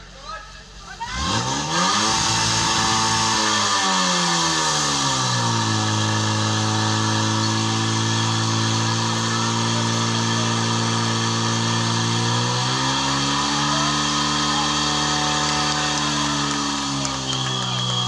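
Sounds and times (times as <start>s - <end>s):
pump engine running at high revs: 1.2s - 18.0s.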